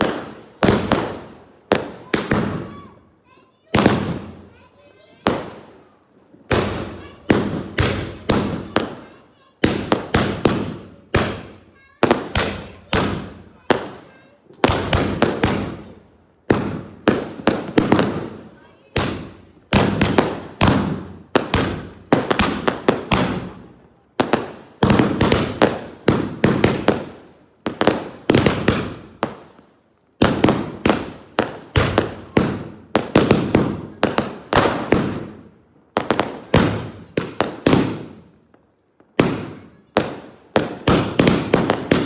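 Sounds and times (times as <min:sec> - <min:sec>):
firecrackers banging: 0:00.0 - 0:42.0.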